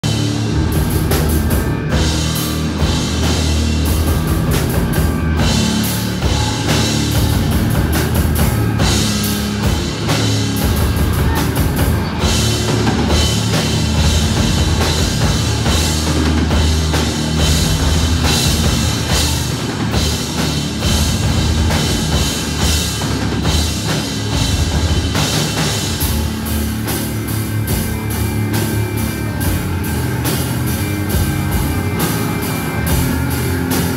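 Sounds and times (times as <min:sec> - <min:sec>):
loud live rock band playing: 0:00.0 - 0:33.9.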